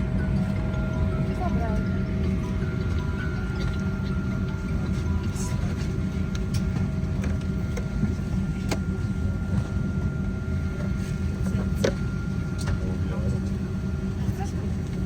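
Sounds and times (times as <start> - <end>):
air-conditioning rumble: 0.0 - 15.0
faint steady whine: 0.0 - 15.0.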